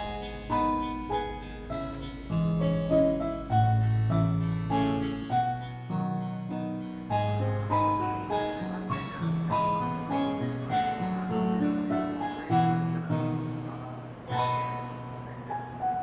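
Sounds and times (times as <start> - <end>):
moving bass line: 0.0 - 15.2
plucked keyboard melody: 0.0 - 16.0.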